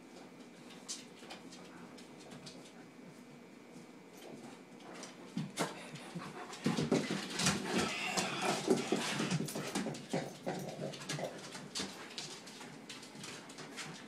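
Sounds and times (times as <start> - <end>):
dogs play-fighting: 0.7 - 14.0.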